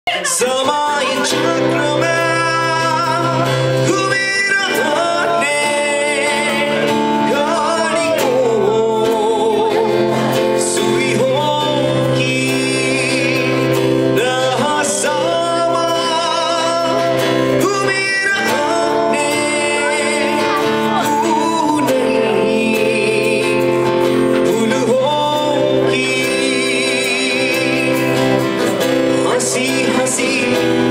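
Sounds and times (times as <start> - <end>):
acoustic guitar chords: 0.0 - 30.9
person singing: 0.0 - 30.9.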